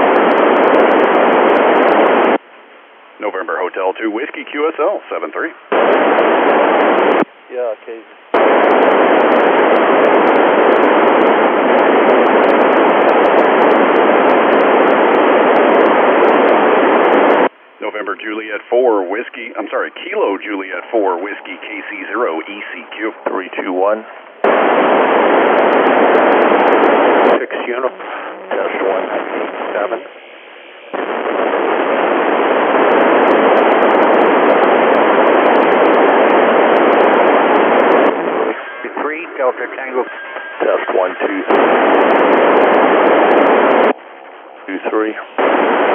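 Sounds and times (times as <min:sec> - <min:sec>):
radio receiver hiss: 0:00.0 - 0:45.9.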